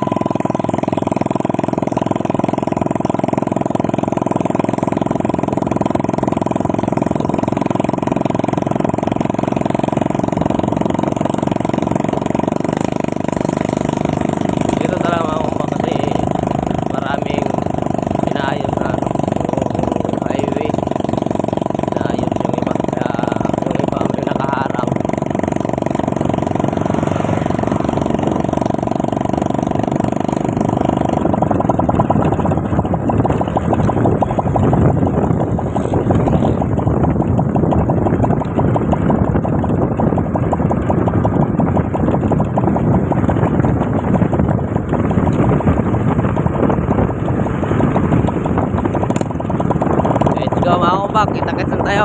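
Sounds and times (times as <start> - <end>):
motorcycle engine running: 0.0 - 52.0
wind on microphone: 0.0 - 52.0.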